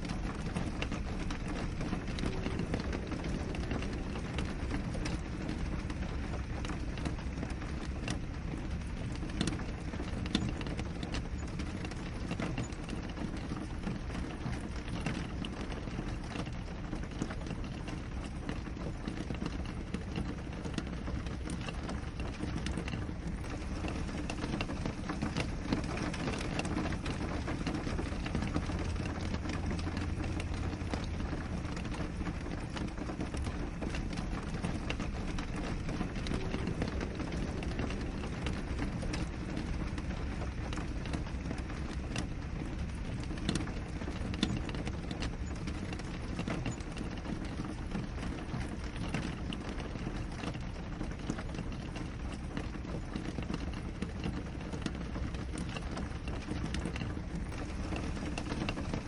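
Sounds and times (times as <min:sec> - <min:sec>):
rain on window glass: 0:00.0 - 0:59.0
raindrops tapping on glass: 0:00.0 - 0:59.0.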